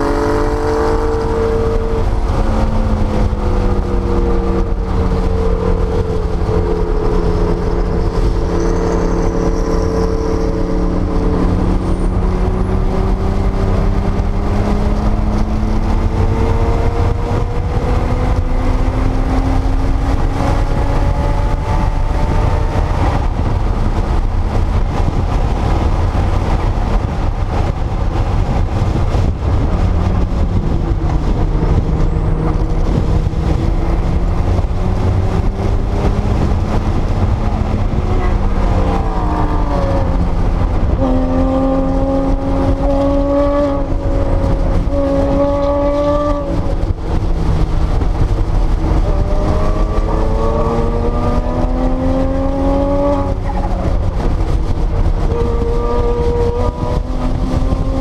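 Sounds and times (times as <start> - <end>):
car engine under load: 0.0 - 58.0
road and wind noise: 0.0 - 58.0.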